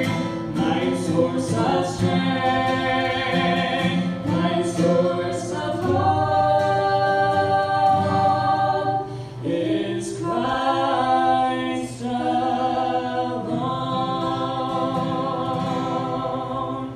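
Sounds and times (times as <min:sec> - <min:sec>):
man and woman singing: 0:00.0 - 0:16.9.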